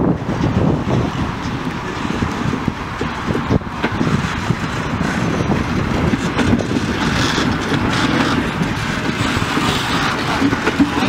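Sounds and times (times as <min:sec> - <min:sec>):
clacks and knocks of train coaches: 0:00.0 - 0:11.0
train wheels rumbling on track: 0:00.0 - 0:11.0.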